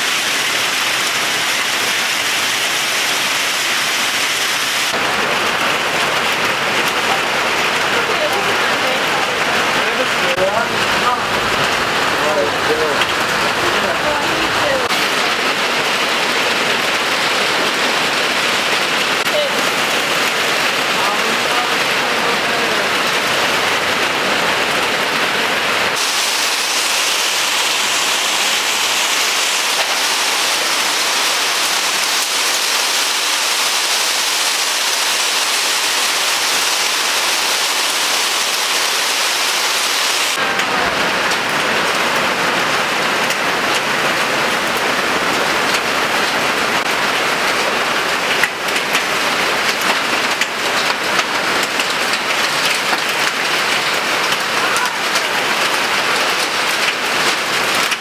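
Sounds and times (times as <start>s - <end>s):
heavy rain splashing on pavement: 0.0s - 58.0s.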